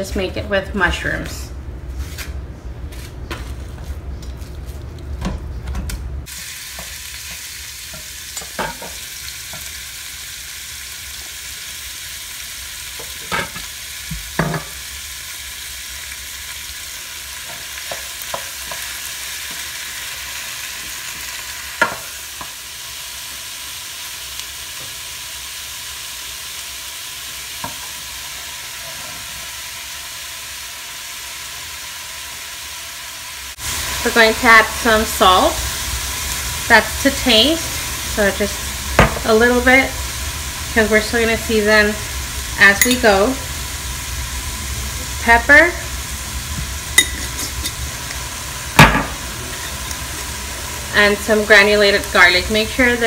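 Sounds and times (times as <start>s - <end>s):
meat sizzling in a pan: 6.2s - 53.0s.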